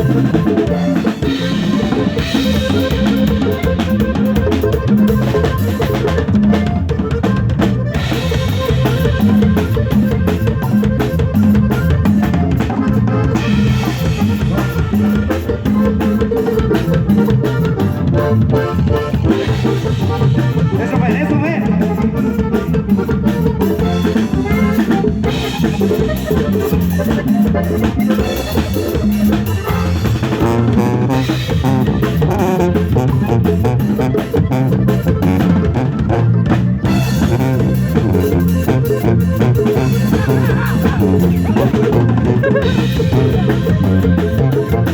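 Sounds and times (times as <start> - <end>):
drum kit beat: 0.0 - 44.9
live cumbia band playing: 0.0 - 44.9.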